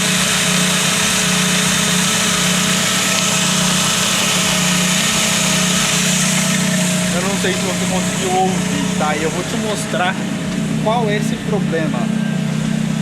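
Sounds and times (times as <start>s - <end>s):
car engine idling: 0.0s - 13.0s
engine ticking: 0.0s - 13.0s.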